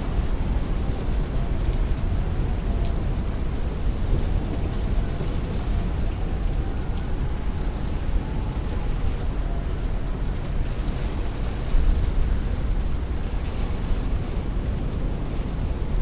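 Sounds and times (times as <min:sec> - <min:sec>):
heavy rain beating on window: 0:00.0 - 0:16.0.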